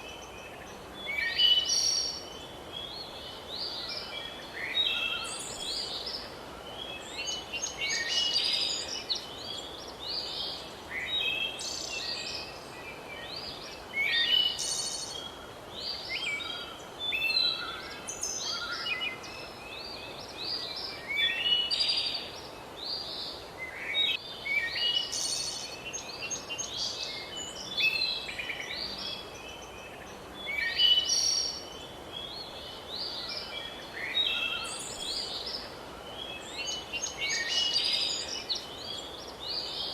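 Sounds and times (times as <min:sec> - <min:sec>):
songbirds singing and chirping: 0:00.0 - 0:39.9
steady background hiss: 0:00.0 - 0:39.9.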